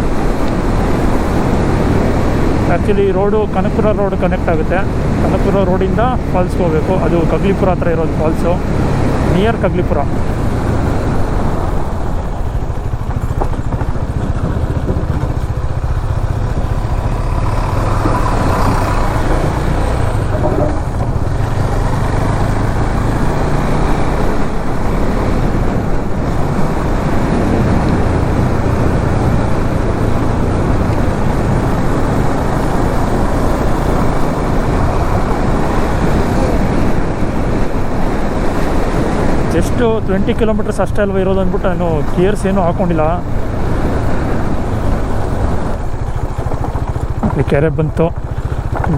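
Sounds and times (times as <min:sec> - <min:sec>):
motorcycle engine and road rumble: 0:00.0 - 0:48.9.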